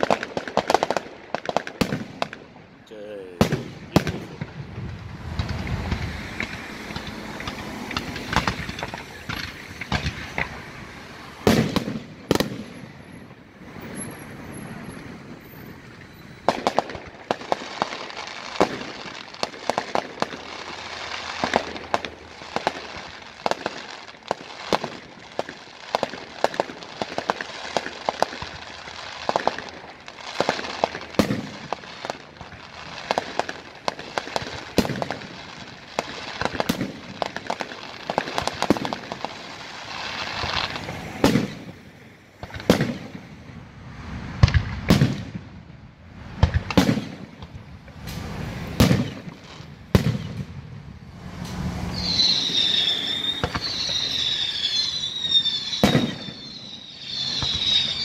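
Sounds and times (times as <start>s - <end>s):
deep fireworks booms: 0.0s - 14.8s, 16.4s - 58.0s
fireworks bangs and crackles: 0.0s - 58.0s.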